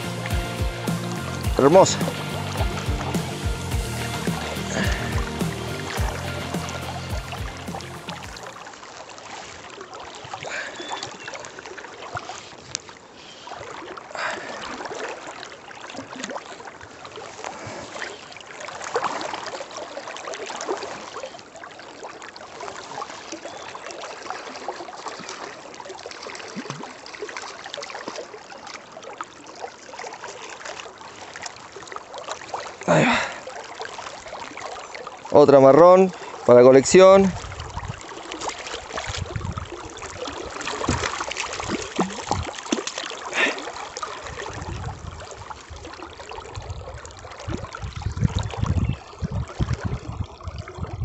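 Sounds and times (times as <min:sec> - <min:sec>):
river water flowing: 0:00.0 - 0:50.8
water splashing: 0:00.0 - 0:51.0.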